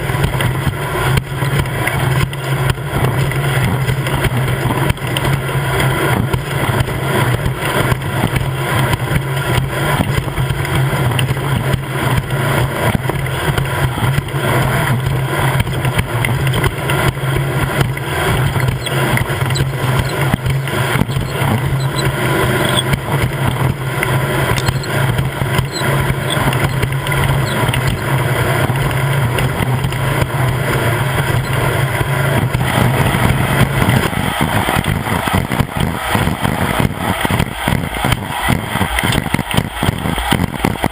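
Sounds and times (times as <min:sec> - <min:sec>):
heavy noise: 0:00.0 - 0:40.9
off-road vehicle engine running: 0:00.0 - 0:40.9.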